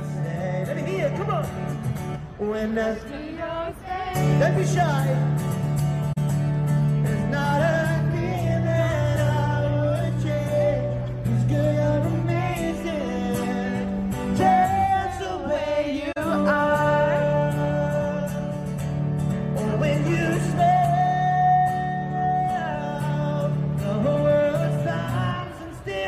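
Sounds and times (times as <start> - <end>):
amplified acoustic guitar: 0.0 - 26.0.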